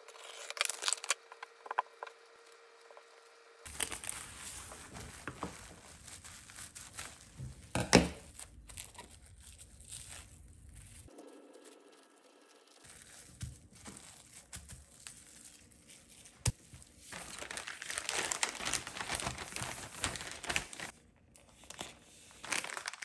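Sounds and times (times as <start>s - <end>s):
crinkling and rustling handling: 0.0s - 11.1s, 12.7s - 23.0s.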